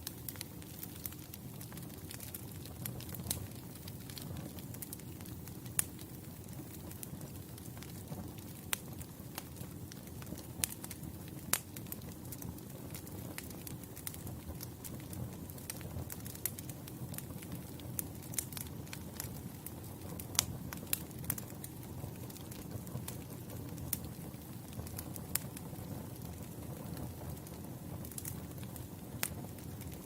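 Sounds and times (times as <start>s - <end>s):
campfire crackling and popping: 0.0s - 30.0s
low rumble of flames: 0.0s - 30.0s.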